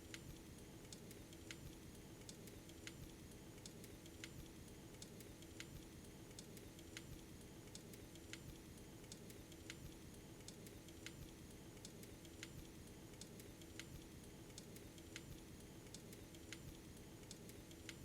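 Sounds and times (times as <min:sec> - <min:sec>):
light ticks: 0:00.0 - 0:18.0.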